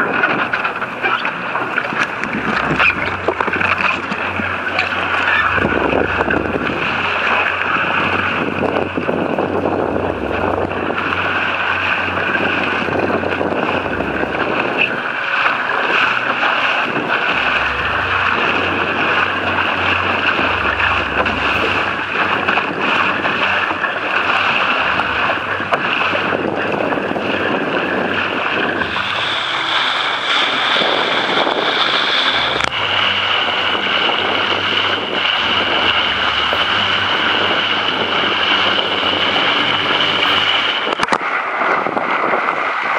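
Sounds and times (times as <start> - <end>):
water splashing against hull: 0.0 - 42.9
wind buffeting microphone: 0.0 - 42.9.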